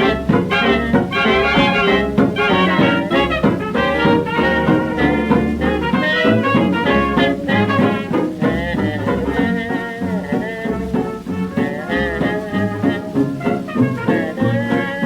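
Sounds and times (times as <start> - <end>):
dance-band orchestra playing: 0.0 - 15.0.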